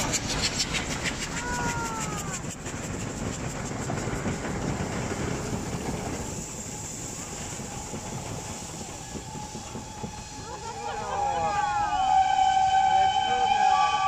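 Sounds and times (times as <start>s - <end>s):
running gear rumbling on rails: 0.0s - 11.6s
steam locomotives hissing: 0.0s - 14.0s.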